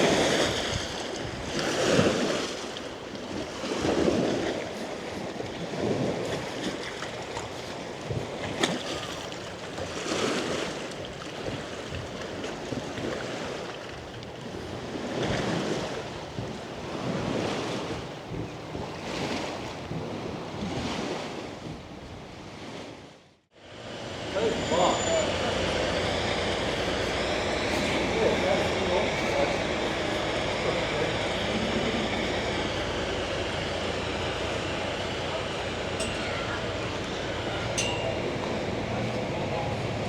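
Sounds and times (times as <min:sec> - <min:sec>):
waves lapping against shore: 0:00.0 - 0:40.0
wind: 0:00.0 - 0:40.0.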